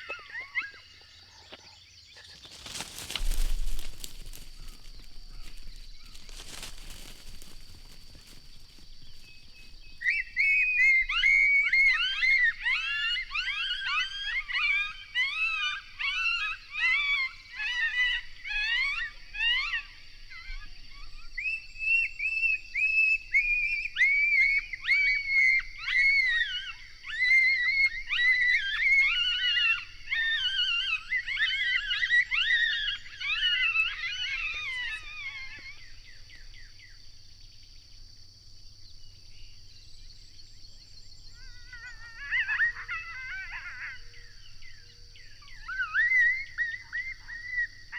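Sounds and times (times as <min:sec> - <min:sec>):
coyotes howling and yipping: 0:00.0 - 0:38.0, 0:38.6 - 0:47.9.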